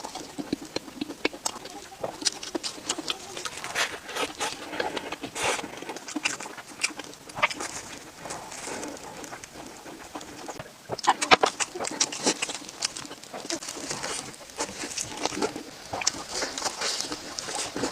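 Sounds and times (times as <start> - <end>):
chewing with crisp crunches: 0.0 - 17.9
wet mouth clicks: 0.0 - 17.9.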